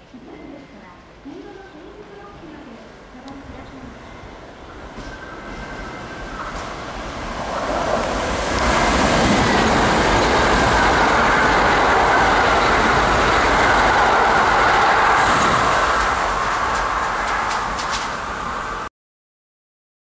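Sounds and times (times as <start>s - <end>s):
train wheels running on rails: 0.2s - 18.9s.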